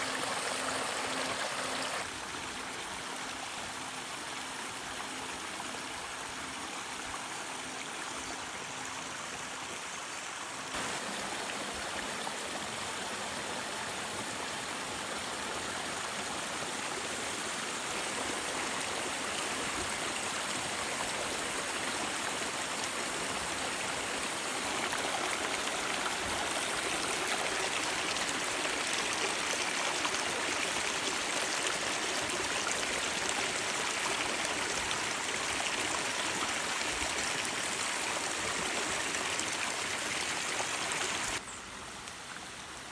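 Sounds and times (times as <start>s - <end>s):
waterfall water rushing: 0.0s - 6.8s, 7.6s - 41.4s.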